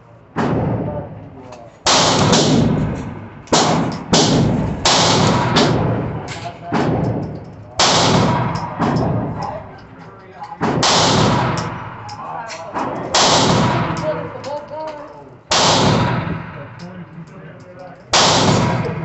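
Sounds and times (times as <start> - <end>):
pistol shots with echo: 0.4 - 1.2, 1.8 - 14.6, 15.5 - 17.0, 18.1 - 19.0.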